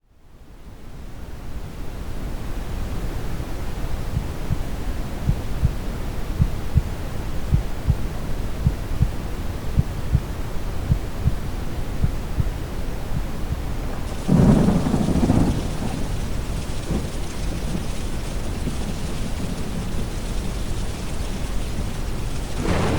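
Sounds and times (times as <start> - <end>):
low rumbling hiss: 0.2 - 22.9.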